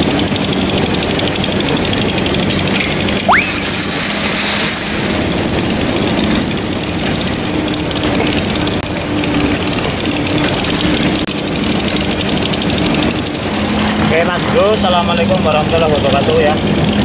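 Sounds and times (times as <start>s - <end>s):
excavator engine humming: 0.0s - 17.0s.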